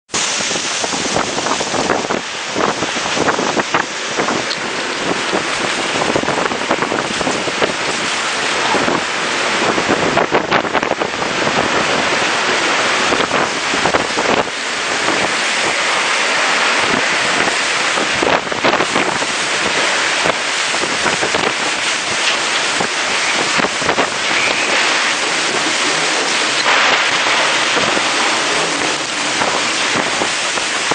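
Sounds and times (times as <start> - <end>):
heavy rain: 0.1 - 30.9
strong gusting wind: 0.1 - 30.9.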